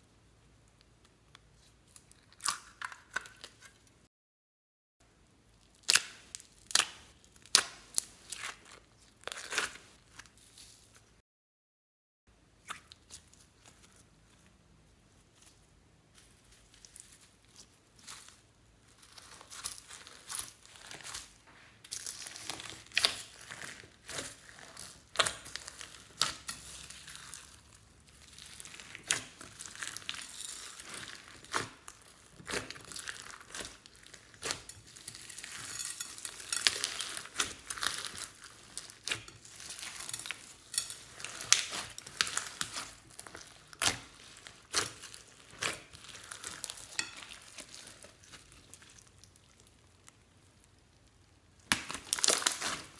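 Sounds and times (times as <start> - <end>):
slime squishing with crackles: 0.0 - 4.0, 5.2 - 11.2, 12.4 - 52.9.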